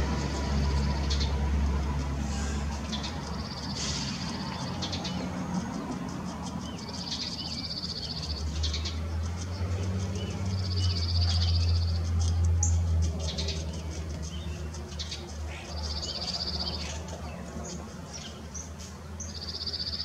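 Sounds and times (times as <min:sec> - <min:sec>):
birds chirping: 0:00.0 - 0:20.0
small birds trilling: 0:00.0 - 0:20.0.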